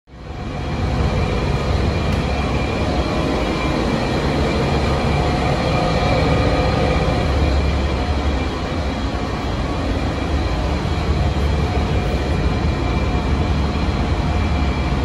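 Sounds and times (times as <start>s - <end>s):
bus diesel engine rumble: 0.2s - 15.0s.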